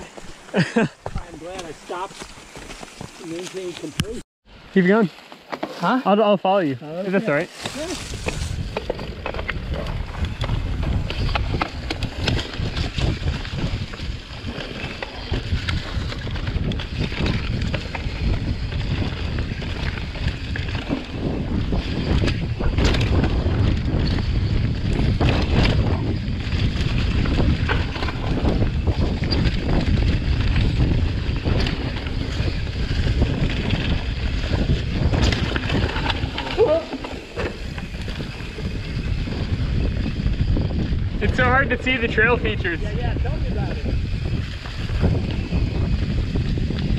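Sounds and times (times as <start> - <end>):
bike rattling over rough ground: 0.0 - 4.2, 4.8 - 46.9
wind rumbling on microphone: 7.3 - 46.9.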